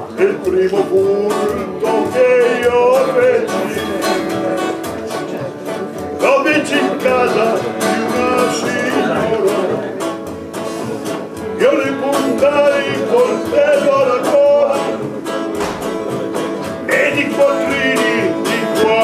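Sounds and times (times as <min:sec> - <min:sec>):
acoustic guitars strumming: 0:00.0 - 0:19.0
person singing folk song: 0:00.0 - 0:19.0.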